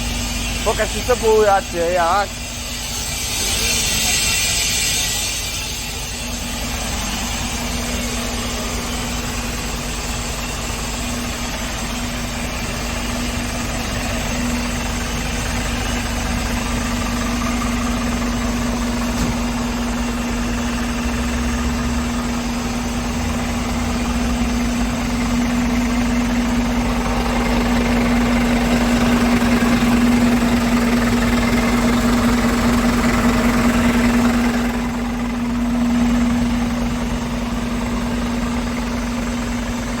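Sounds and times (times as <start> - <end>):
truck diesel engine idling: 0.0 - 40.0.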